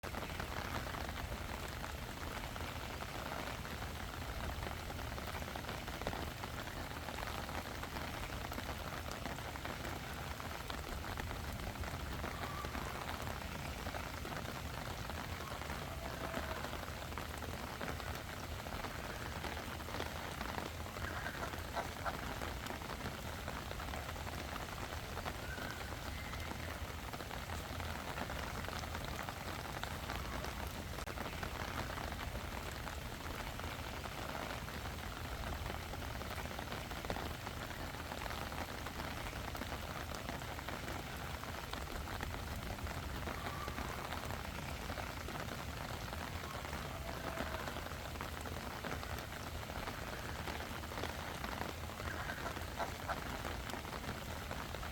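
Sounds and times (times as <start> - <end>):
water noise: 0.0 - 54.9
wind: 0.0 - 54.9.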